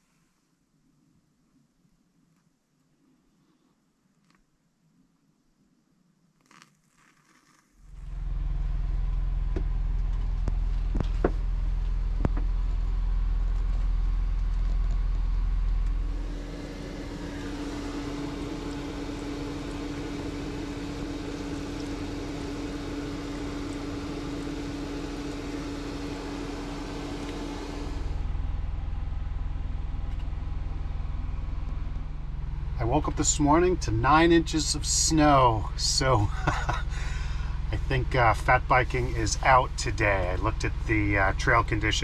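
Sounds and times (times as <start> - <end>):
steady hum with hiss: 4.8 - 42.0
engine deep rumble: 7.8 - 42.0.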